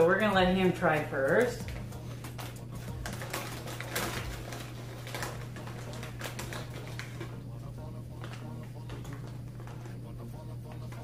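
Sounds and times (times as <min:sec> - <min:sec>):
plastic snack bag crackling: 0:00.0 - 0:11.0.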